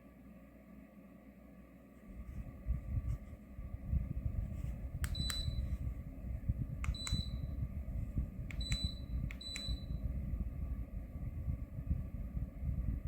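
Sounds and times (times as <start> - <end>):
low rumbling noise: 2.1 - 13.0.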